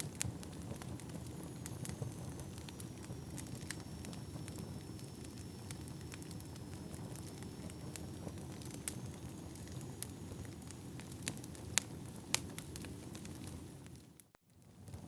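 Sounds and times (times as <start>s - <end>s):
fire crackles and pops: 0.0s - 15.0s.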